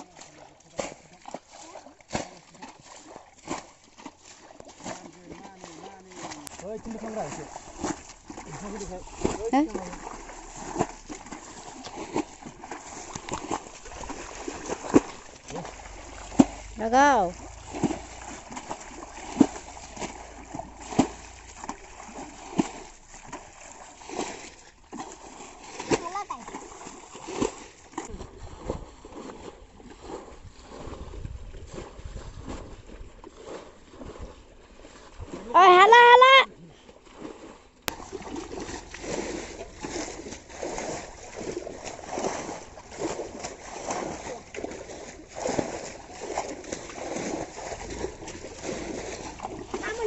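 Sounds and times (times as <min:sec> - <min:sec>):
water splashing and sloshing: 0:00.0 - 0:50.0.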